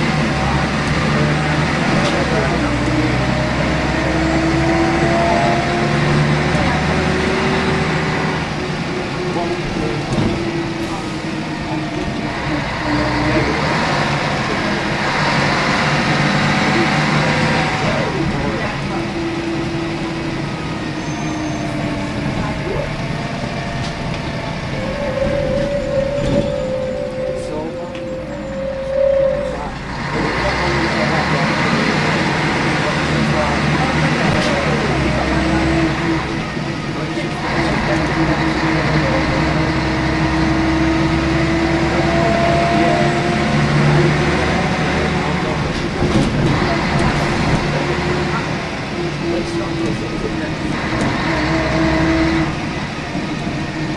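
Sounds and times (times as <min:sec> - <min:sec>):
bus drivetrain rumble: 0:00.0 - 0:53.9
diesel engine drone: 0:00.0 - 0:53.9
drivetrain whine: 0:00.0 - 0:53.9.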